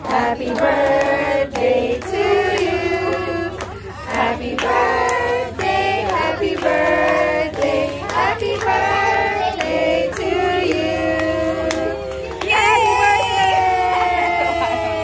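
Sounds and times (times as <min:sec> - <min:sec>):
people singing together: 0:00.0 - 0:13.3
hands clapping: 0:00.0 - 0:14.1.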